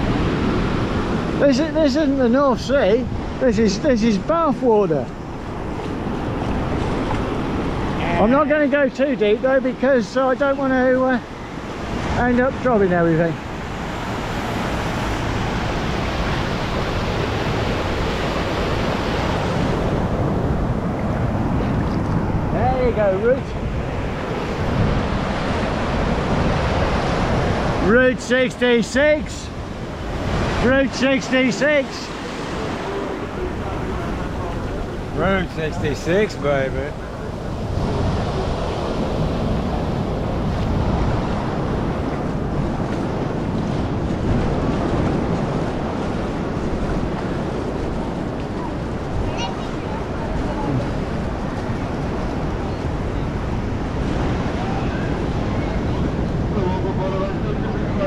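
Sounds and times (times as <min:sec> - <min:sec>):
wind on microphone: 0:00.0 - 0:04.3, 0:05.0 - 0:08.5, 0:13.3 - 0:27.9, 0:29.0 - 0:58.0
ocean surf washing: 0:00.0 - 0:58.0.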